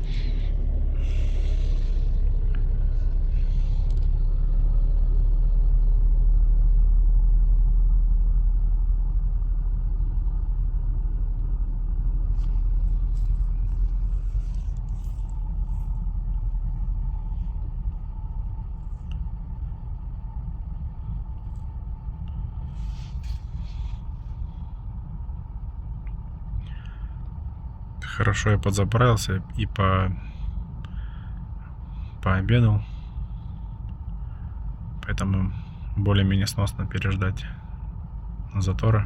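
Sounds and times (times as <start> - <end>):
road traffic rumble inside car: 0.0 - 39.0.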